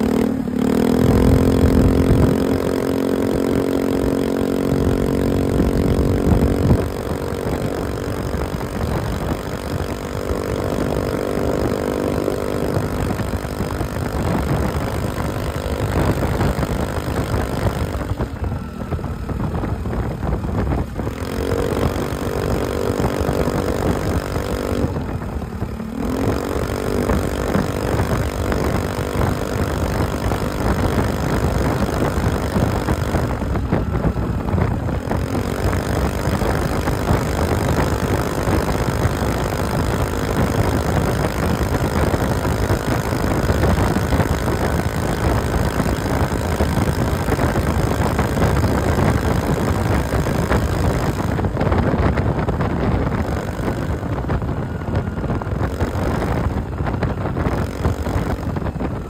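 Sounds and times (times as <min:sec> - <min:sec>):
road and wind noise: 0:00.0 - 0:59.0
scooter engine exhaust: 0:00.0 - 0:59.0.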